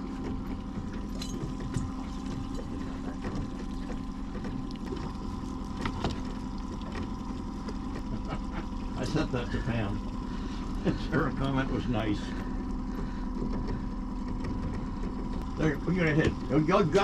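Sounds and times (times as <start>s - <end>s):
boat motor running: 0.0s - 17.0s
water noise: 0.0s - 17.0s.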